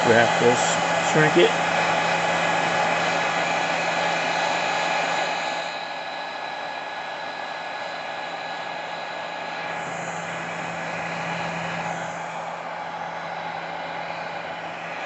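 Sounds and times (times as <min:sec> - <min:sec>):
heat gun blowing hot air: 0:00.0 - 0:15.0.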